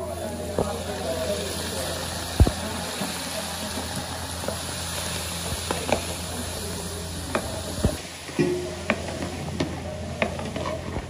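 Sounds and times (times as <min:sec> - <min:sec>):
water pouring into a pot: 0:00.0 - 0:09.9.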